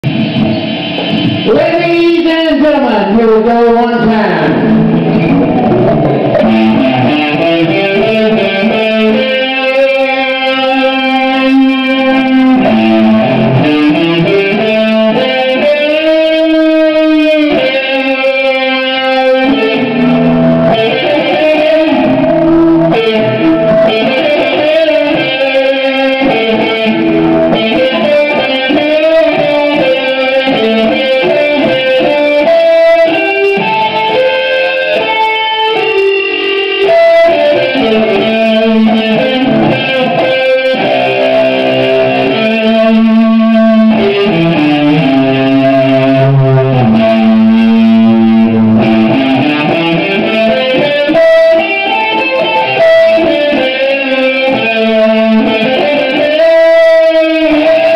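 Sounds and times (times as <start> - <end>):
electric guitar through amplifier: 0.0 - 57.9.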